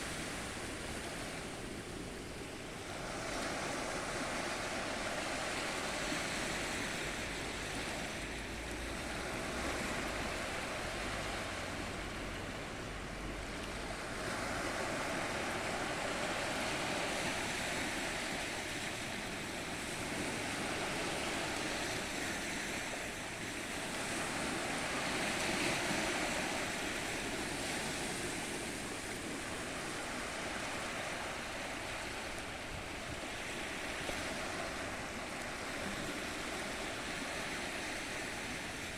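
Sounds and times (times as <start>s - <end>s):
waves breaking and washing in: 0.0s - 38.9s.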